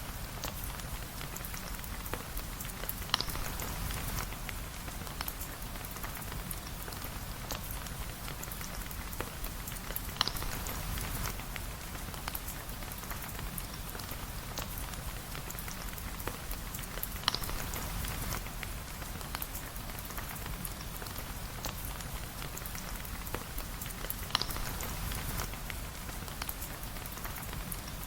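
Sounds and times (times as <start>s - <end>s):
rain pattering on a surface: 0.0s - 28.0s.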